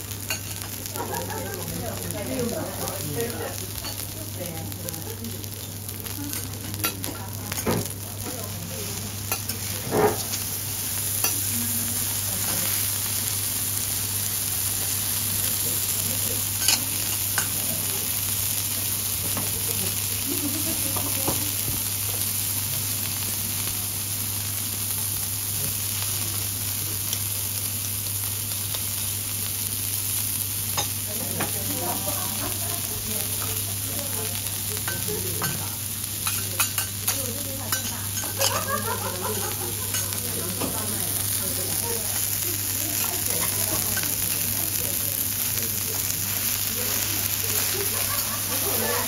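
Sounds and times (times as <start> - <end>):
steaks sizzling on a griddle: 0.0 - 49.0.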